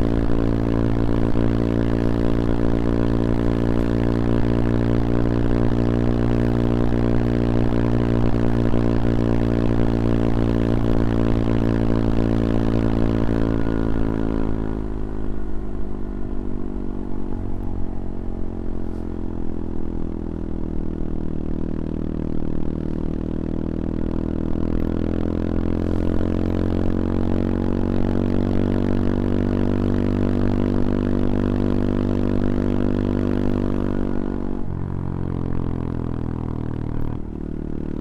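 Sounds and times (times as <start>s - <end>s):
single-cylinder engine running: 0.0s - 38.0s.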